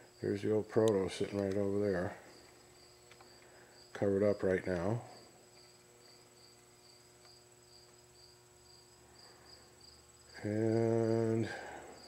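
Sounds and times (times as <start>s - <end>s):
thin steady high whine: 0.0s - 12.0s.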